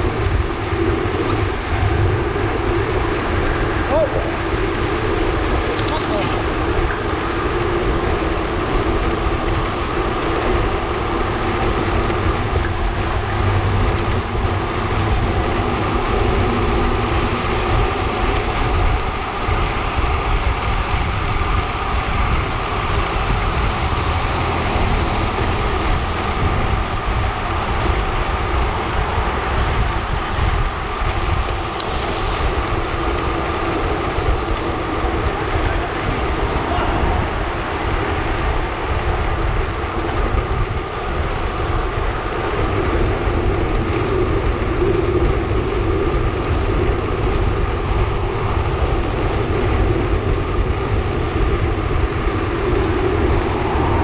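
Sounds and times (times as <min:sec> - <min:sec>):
bike tyre noise: 0:00.0 - 0:54.0
wind rushing on microphone: 0:00.0 - 0:54.0.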